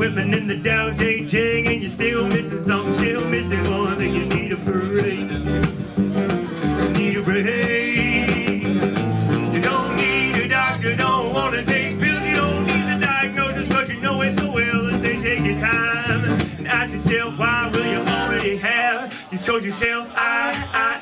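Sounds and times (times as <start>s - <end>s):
man singing: 0.0s - 5.7s, 6.7s - 21.0s
double bass: 0.0s - 18.8s
acoustic guitar: 0.0s - 21.0s.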